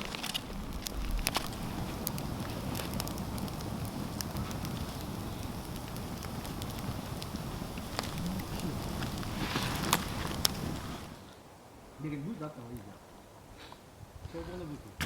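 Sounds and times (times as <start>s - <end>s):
fire crackles and pops: 0.0s - 12.9s
campfire hissing: 0.0s - 14.8s.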